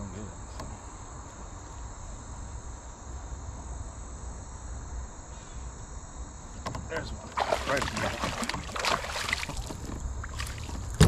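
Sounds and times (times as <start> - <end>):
high insect chirring: 0.0 - 11.0.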